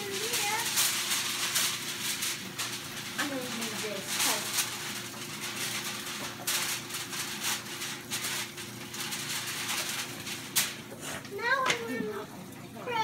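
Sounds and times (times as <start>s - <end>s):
aluminium foil crinkling: 0.0s - 12.3s.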